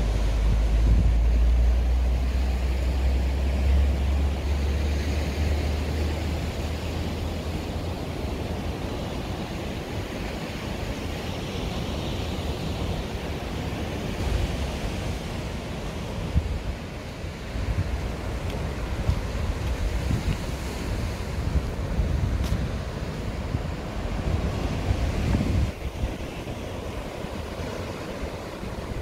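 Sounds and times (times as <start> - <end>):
ocean surf on rocky shore: 0.0 - 29.0
wind buffeting microphone: 0.0 - 29.0.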